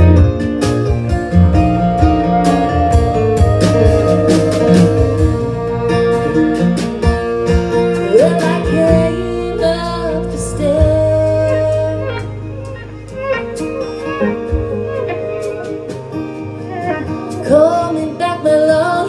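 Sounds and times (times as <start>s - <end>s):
acoustic guitar: 0.0s - 19.0s
electric bass: 0.0s - 19.0s
sliding melody notes: 0.0s - 19.0s.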